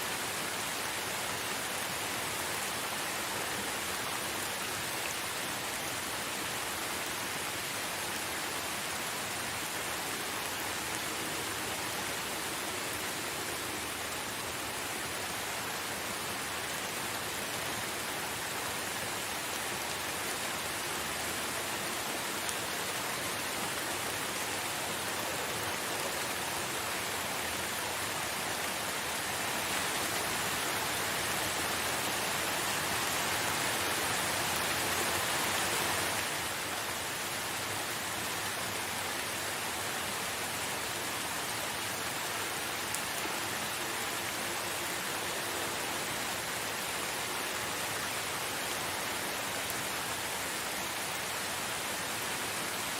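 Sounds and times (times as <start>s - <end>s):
steady rainfall: 0.0s - 52.9s.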